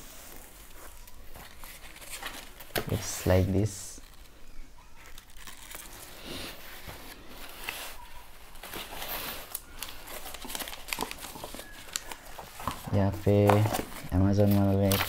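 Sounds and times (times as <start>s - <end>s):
cardboard being handled: 0.2s - 4.3s, 5.0s - 15.0s
plastic wrap crinkling: 0.2s - 15.0s.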